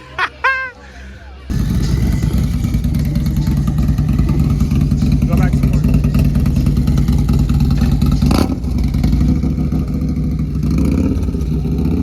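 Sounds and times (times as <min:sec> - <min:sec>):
motorcycle engine rumbling: 0:01.5 - 0:12.0.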